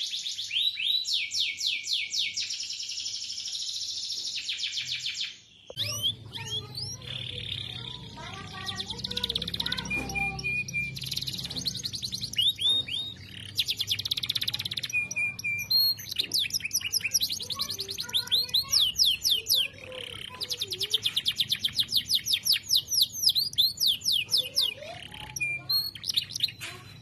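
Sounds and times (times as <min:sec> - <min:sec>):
canary singing trills: 0:00.0 - 0:27.0.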